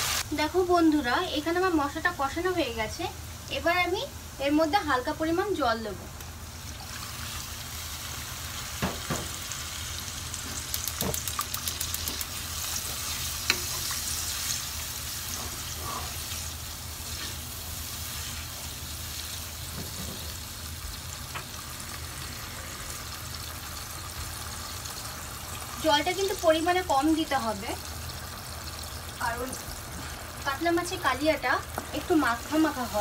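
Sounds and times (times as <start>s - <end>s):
spice paste sizzling in a pan: 0.0s - 33.0s.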